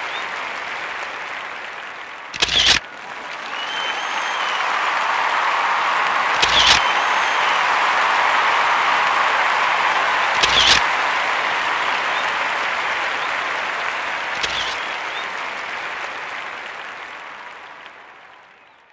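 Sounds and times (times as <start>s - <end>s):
crowd applauding: 0.0s - 18.9s.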